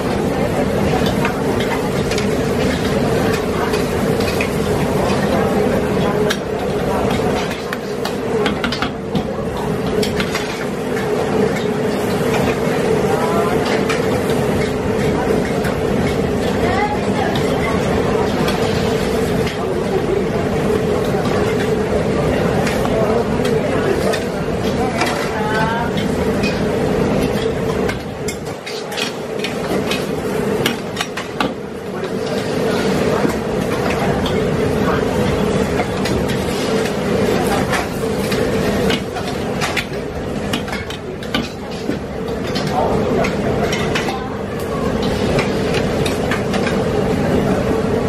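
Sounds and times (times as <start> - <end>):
gas burner hum: 0.0 - 48.0
noodles cooking in wok: 0.0 - 48.0.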